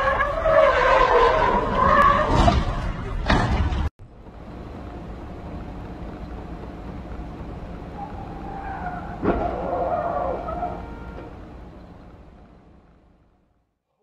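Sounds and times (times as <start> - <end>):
road and engine rumble in car: 0.0 - 13.7.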